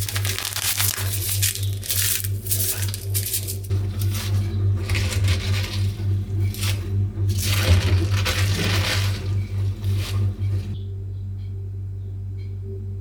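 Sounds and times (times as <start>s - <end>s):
food crunching and crackling: 0.0s - 10.8s
steady low hum: 0.0s - 13.0s.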